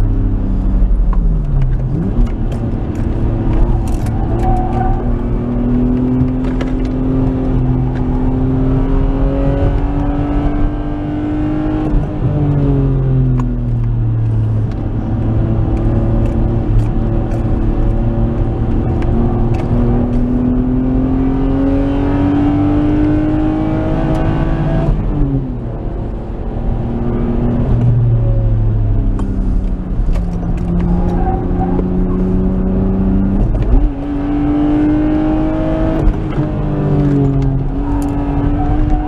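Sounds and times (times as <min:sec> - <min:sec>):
car engine revving in cabin: 0:00.0 - 0:39.0.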